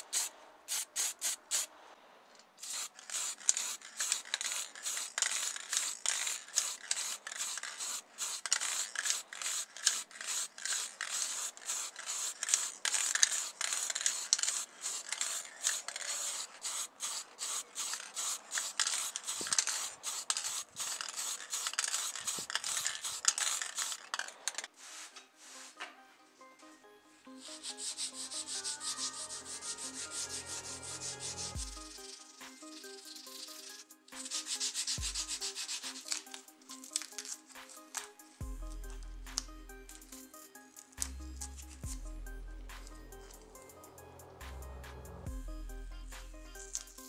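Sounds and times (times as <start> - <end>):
spray paint can hissing: 0.0 - 1.7, 2.6 - 24.7, 27.4 - 42.0, 42.7 - 43.7, 46.5 - 47.0.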